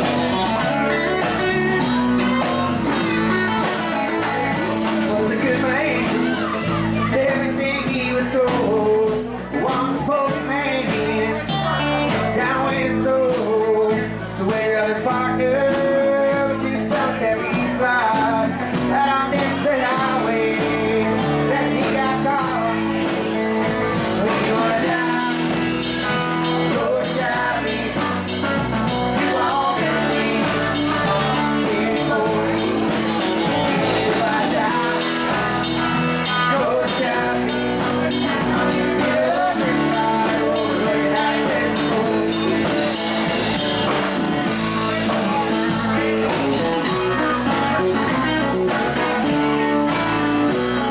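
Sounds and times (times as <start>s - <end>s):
blues-rock band playing: 0.0s - 50.9s
person singing lead vocal: 0.0s - 50.9s.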